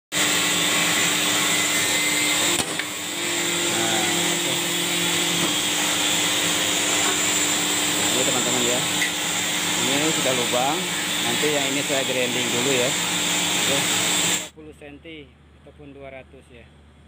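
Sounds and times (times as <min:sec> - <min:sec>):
hydraulic pump motor humming: 0:00.1 - 0:14.5.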